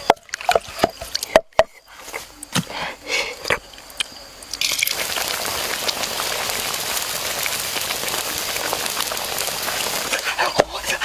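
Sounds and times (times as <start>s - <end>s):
dense crackling hiss: 0.0s - 11.0s.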